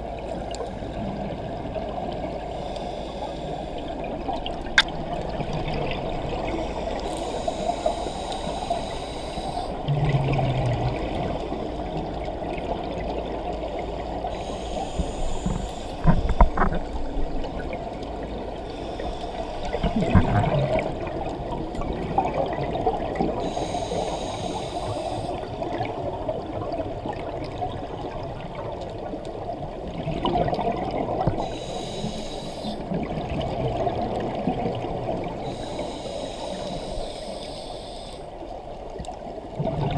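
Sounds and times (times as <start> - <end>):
steady underwater hiss: 0.0 - 39.8.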